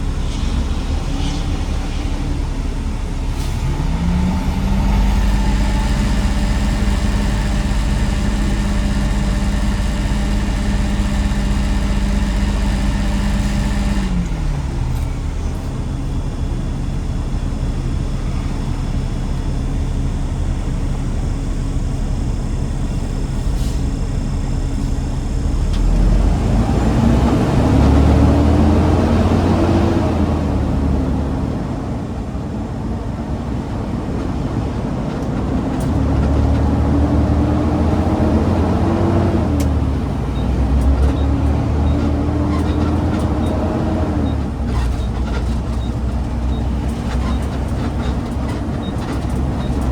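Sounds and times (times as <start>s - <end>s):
garbage truck engine: 0.0s - 49.9s.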